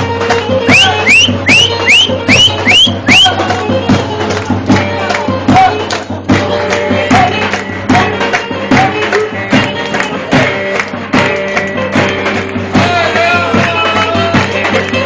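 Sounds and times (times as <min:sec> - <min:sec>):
driving drum beat: 0:00.0 - 0:15.0
folk dance music: 0:00.0 - 0:15.0.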